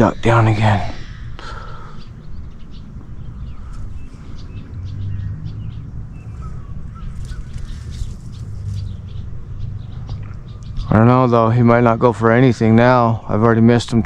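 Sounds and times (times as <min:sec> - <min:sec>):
birds chirping: 0:00.0 - 0:14.0
wind rumbling on microphone: 0:00.0 - 0:14.0.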